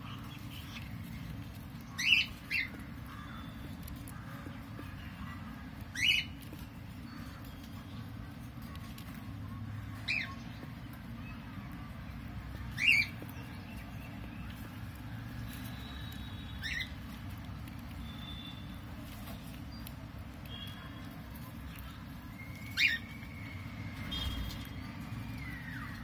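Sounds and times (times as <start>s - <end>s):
lovebirds chirping: 0.0s - 26.0s.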